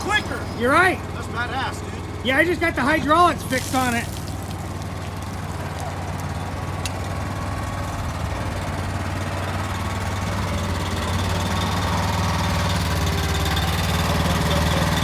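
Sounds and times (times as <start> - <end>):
backhoe diesel engine idling: 0.0 - 15.0
hydraulics working: 0.0 - 15.0.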